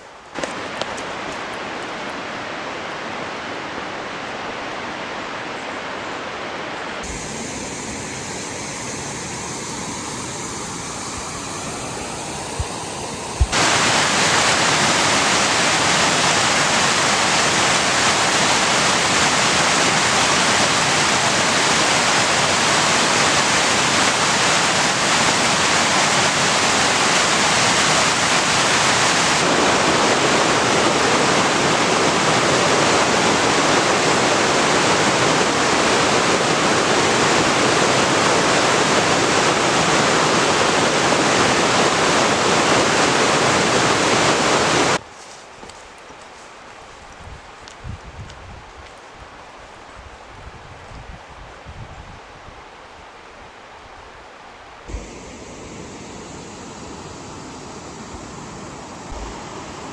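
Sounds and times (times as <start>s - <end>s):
rushing water: 0.3s - 45.0s, 54.9s - 59.9s.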